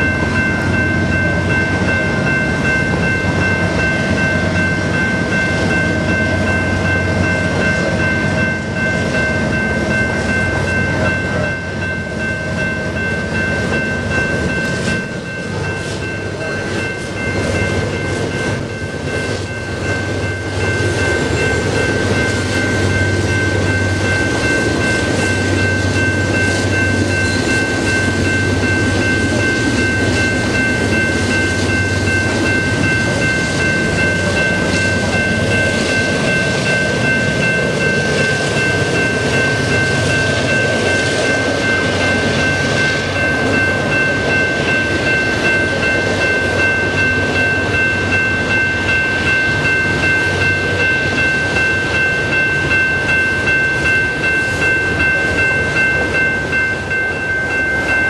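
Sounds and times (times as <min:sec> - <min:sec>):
train rumbling over flyover: 0:00.0 - 0:58.0.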